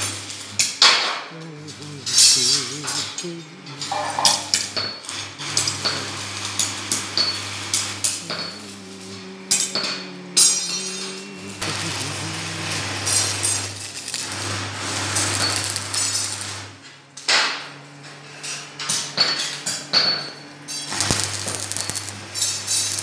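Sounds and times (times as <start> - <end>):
low electrical hum: 0.0 - 23.0
welding arc crackling and spitting: 0.0 - 23.0
welding arc hiss: 0.0 - 23.0.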